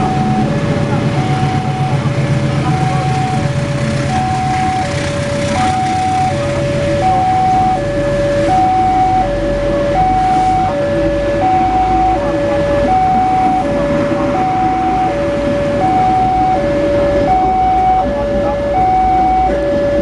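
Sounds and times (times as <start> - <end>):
train coaches rolling on rails: 0.0 - 20.0
two-tone crossing alarm: 0.0 - 20.0.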